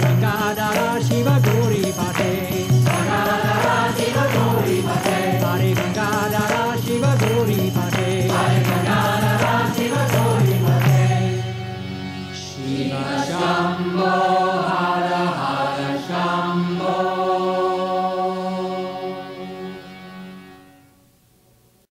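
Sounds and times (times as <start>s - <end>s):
steady drone: 0.0s - 20.6s
devotional chant music: 0.0s - 20.7s.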